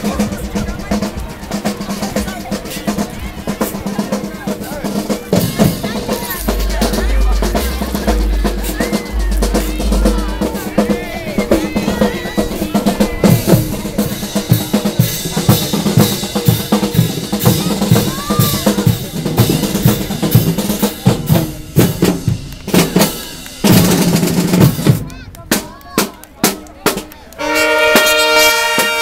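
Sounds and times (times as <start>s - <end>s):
snare and bass drums beating: 0.0s - 29.0s.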